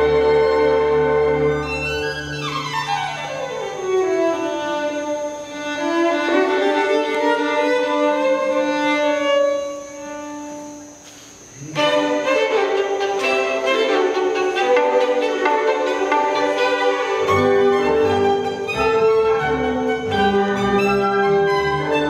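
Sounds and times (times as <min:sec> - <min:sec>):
string orchestra: 0:00.0 - 0:11.0, 0:11.6 - 0:22.0
solo violin: 0:00.0 - 0:22.0.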